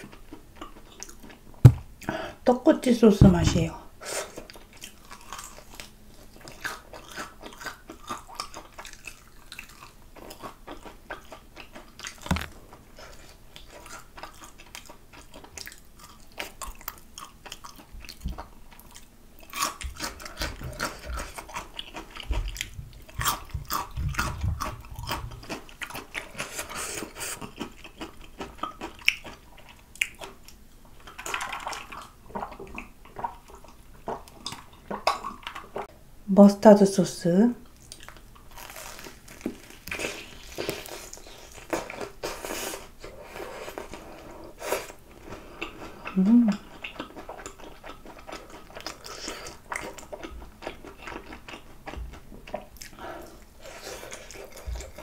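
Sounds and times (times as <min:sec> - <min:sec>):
crunchy chewing of fried chicken: 0:00.0 - 0:02.2, 0:04.1 - 0:35.9, 0:37.6 - 0:55.0.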